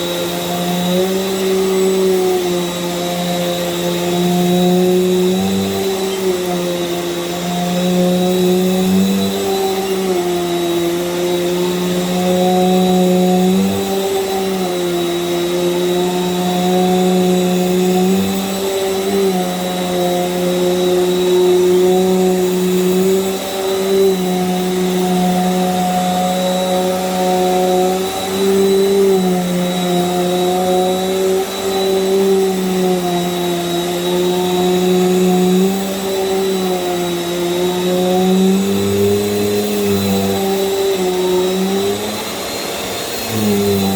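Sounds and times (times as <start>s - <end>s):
vacuum cleaner running on rug: 0.0s - 43.9s.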